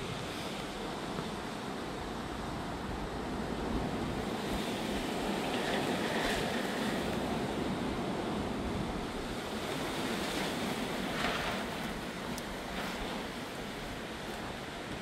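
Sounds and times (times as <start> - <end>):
gusty wind blowing: 0.0 - 15.0.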